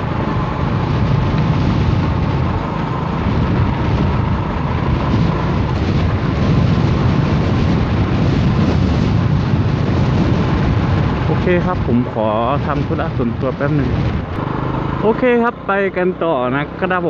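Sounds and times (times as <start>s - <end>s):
strong storm wind: 0.0s - 17.0s
vehicle rumbling: 0.0s - 17.0s.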